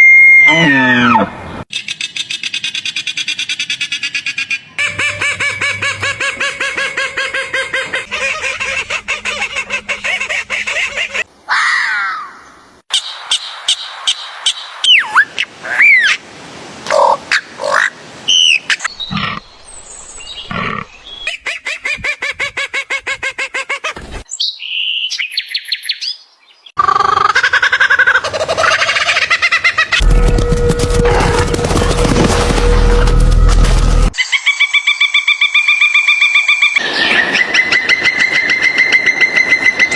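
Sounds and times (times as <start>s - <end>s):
bird and animal calls: 0.5s - 16.2s, 16.9s - 30.2s, 34.2s - 39.9s.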